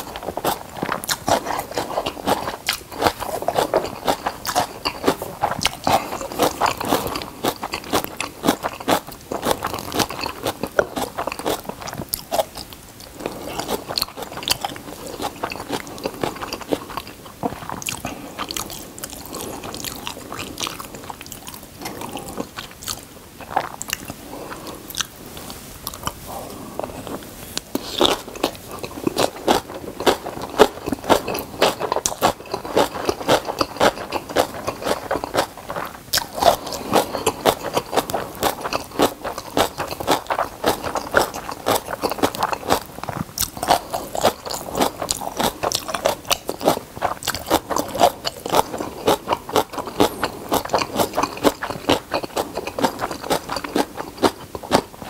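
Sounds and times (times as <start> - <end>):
wet chewing clicks: 0.0 - 26.2, 26.8 - 55.0.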